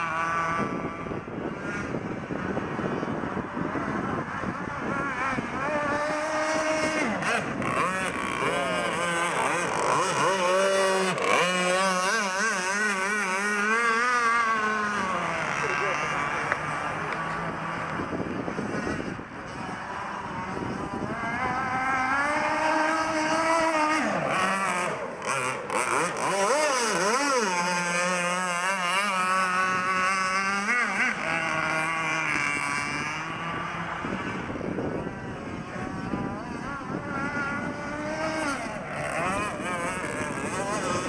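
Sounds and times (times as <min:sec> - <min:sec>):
small boat engine running: 0:00.0 - 0:41.0.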